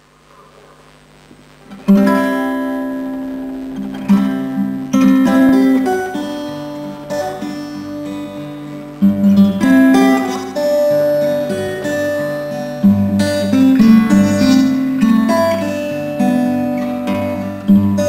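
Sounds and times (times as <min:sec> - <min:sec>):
acoustic guitar strumming: 0:01.7 - 0:18.0.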